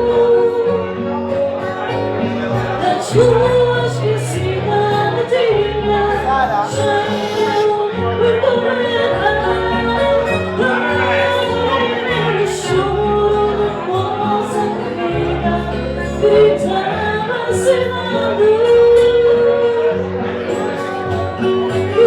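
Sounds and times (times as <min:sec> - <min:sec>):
woman singing: 0:02.4 - 0:22.0.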